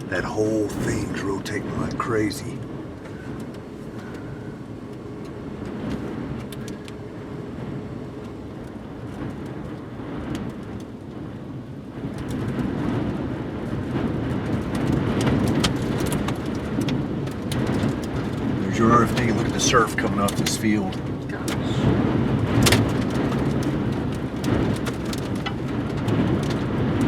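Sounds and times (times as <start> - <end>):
vehicle noise: 0.0 - 11.5, 12.1 - 27.0
wind: 0.0 - 27.0.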